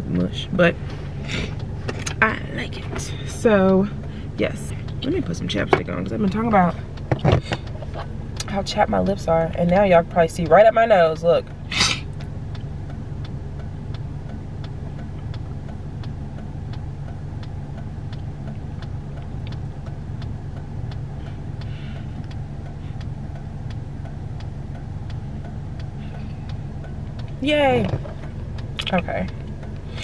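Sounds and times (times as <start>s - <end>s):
car engine idling: 0.0s - 30.0s
hazard light flasher ticking: 0.5s - 30.0s.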